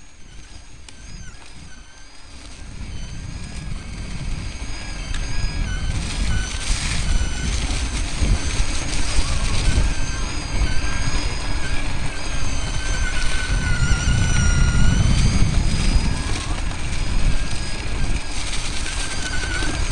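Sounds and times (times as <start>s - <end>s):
electric motor whining: 0.0s - 19.9s
low rumble of dirt trail ride: 0.0s - 19.9s.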